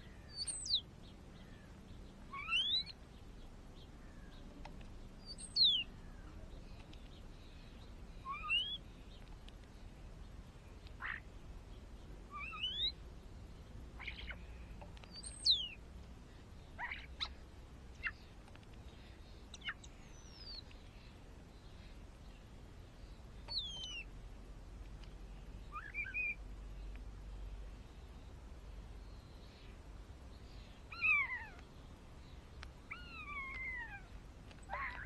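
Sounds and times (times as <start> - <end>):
garden birds chirping and whistling: 0.0 - 24.2, 25.0 - 35.0.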